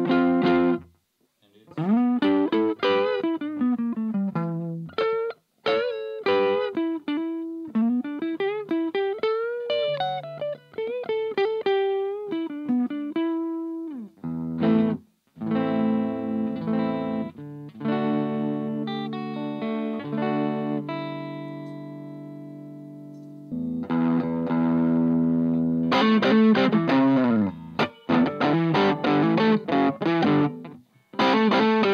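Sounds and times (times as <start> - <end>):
electric guitar lead and chords: 0.0 - 0.9, 1.8 - 31.9.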